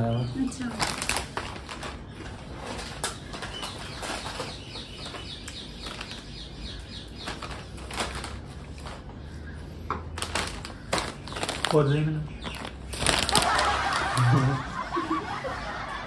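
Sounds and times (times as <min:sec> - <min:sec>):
chip packets crinkling: 0:00.4 - 0:09.2, 0:10.0 - 0:14.6.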